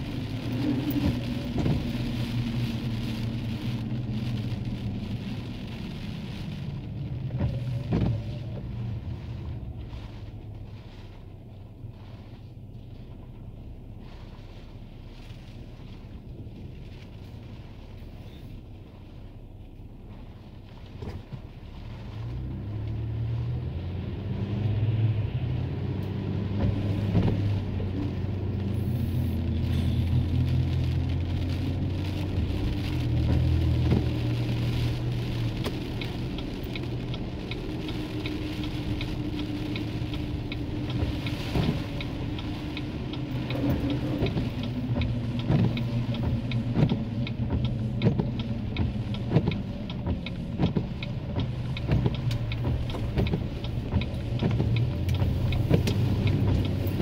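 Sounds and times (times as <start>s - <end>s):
car engine humming: 0.0s - 57.0s
rain tapping: 0.0s - 57.0s.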